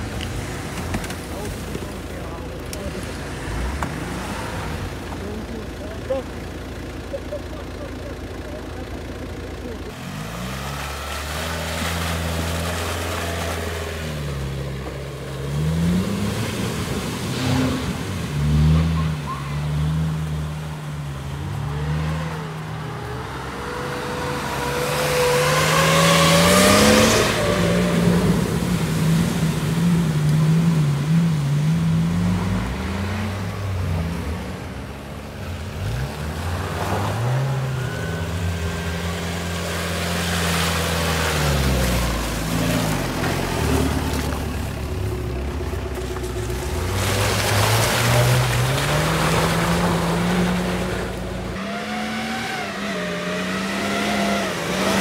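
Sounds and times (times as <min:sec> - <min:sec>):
suv engines revving: 0:00.0 - 0:55.0
tyres churning mud and water: 0:00.0 - 0:55.0
vehicle driving past through mud: 0:07.0 - 0:55.0.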